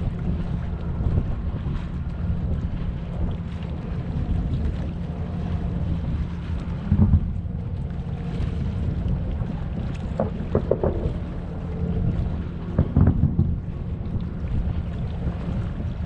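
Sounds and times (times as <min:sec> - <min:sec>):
steady low rumble: 0:00.0 - 0:16.0
wind on microphone: 0:00.0 - 0:16.0.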